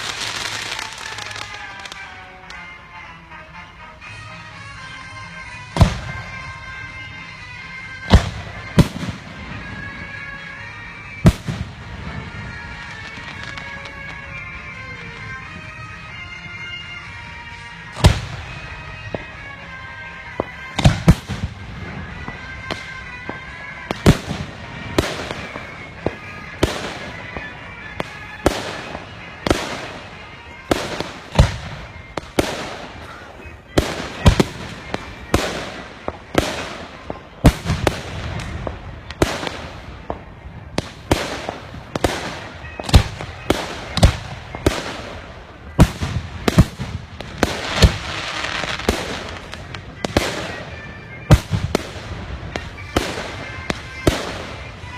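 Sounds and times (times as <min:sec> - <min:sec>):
fireworks crackling: 0:00.0 - 0:54.9.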